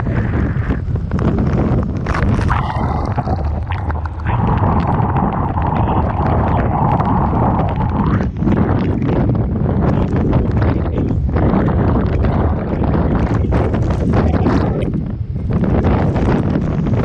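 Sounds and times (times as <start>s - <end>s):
heavy surf: 0.0s - 17.0s
wind buffeting microphone: 0.0s - 17.0s.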